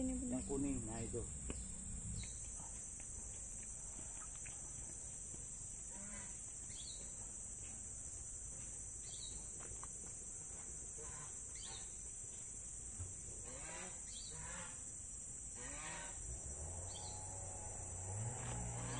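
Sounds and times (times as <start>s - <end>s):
insect chorus buzzing: 0.0s - 18.9s.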